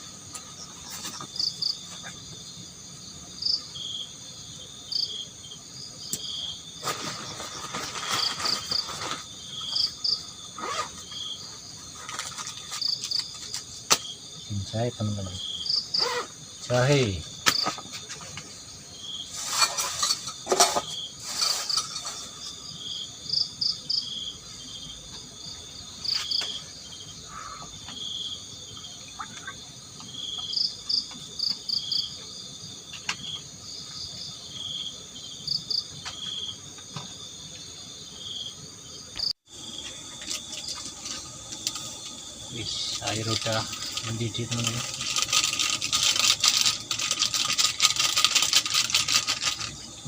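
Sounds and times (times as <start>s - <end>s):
constant high buzz: 0.0s - 50.0s
crickets chirping: 0.0s - 50.0s.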